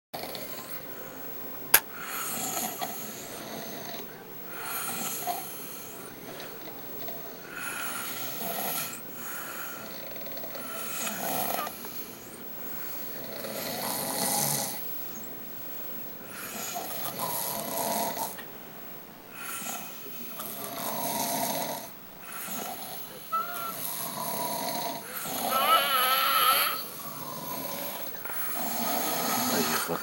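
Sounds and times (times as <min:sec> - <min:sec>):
rasping snores: 0:00.2 - 0:00.8, 0:02.0 - 0:11.9, 0:12.8 - 0:14.9, 0:16.3 - 0:18.4, 0:19.3 - 0:30.0
quiet breathing: 0:00.2 - 0:25.4, 0:26.7 - 0:30.0.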